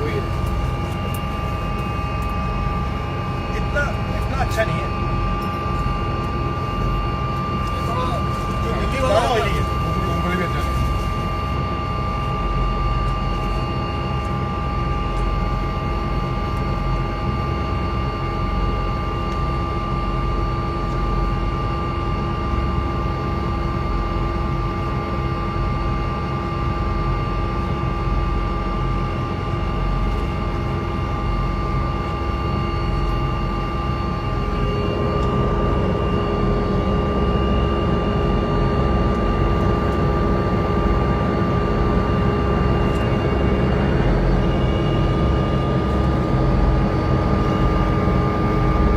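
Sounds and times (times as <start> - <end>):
helicopter engine whine: 0.0 - 48.9.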